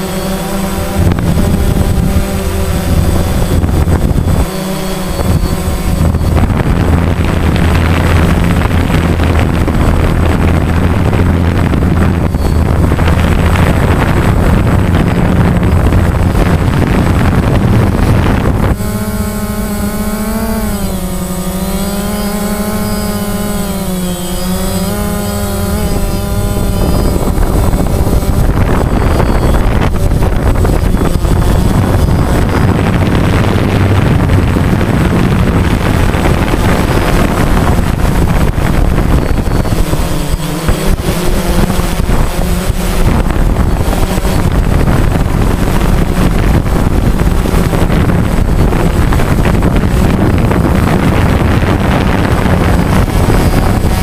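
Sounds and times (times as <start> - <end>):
drone propellers whining: 0.0 - 54.0
wind buffeting microphone: 0.0 - 54.0.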